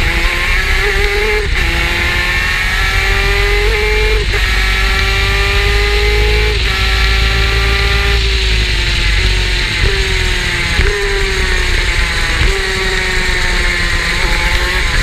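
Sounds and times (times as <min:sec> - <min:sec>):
kart engine accelerating: 0:00.0 - 0:15.0.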